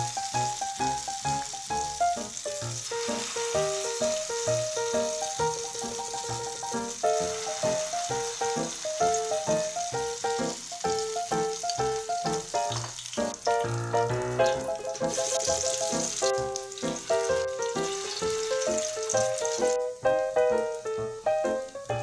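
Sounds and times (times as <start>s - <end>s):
fritters sizzling in hot oil: 0.0s - 22.0s
rhythmic background music: 0.0s - 22.0s.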